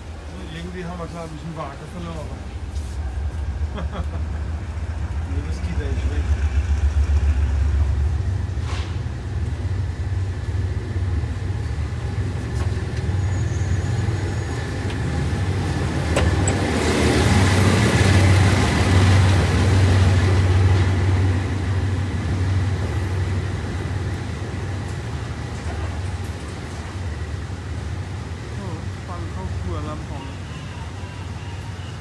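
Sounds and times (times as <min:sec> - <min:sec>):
diesel locomotive engine idling: 0:00.0 - 0:32.0.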